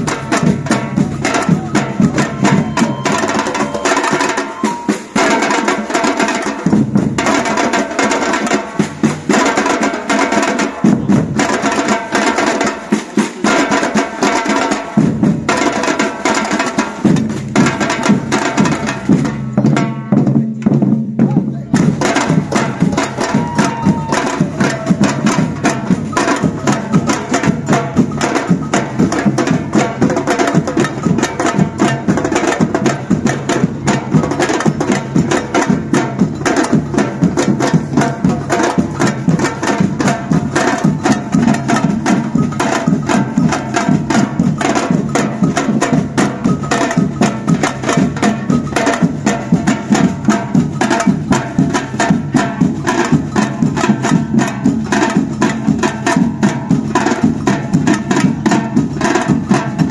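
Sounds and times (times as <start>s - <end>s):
drum band playing fast rhythm: 0.0s - 59.9s.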